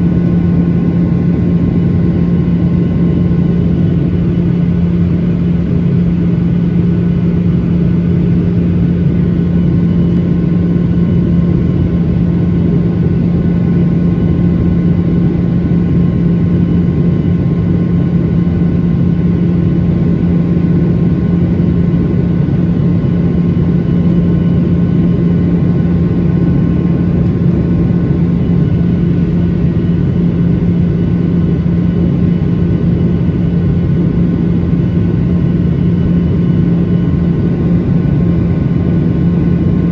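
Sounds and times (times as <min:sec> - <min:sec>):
faint steady whines: 0:00.0 - 0:39.9
jet engine drone in cabin: 0:00.0 - 0:39.9.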